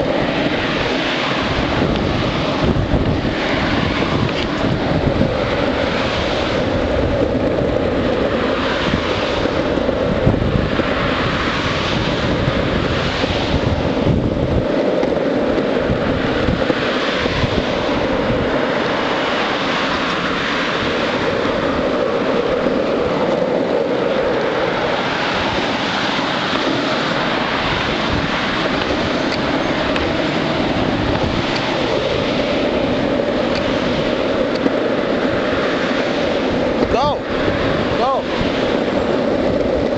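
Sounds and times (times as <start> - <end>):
skateboard wheels rolling on asphalt: 0.0 - 39.9
wind buffeting microphone: 0.0 - 39.9.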